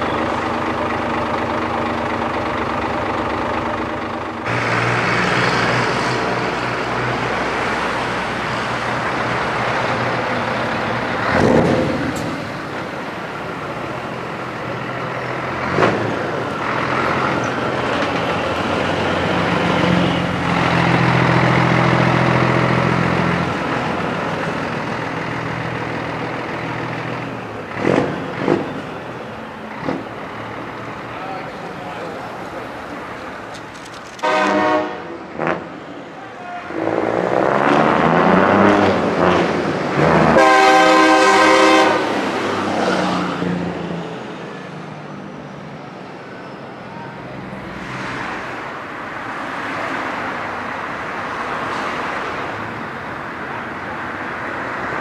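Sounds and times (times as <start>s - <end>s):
truck diesel engines running: 0.0s - 55.0s.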